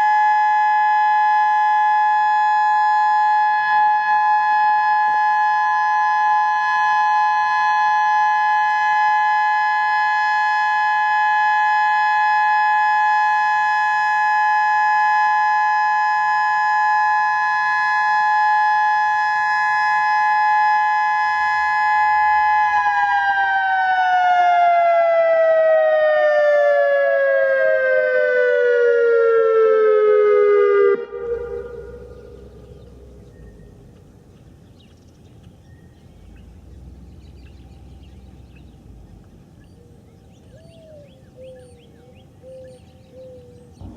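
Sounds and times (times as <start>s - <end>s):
two-note warning siren: 0.0s - 34.3s, 36.0s - 43.9s
faint outdoor background: 0.0s - 43.9s.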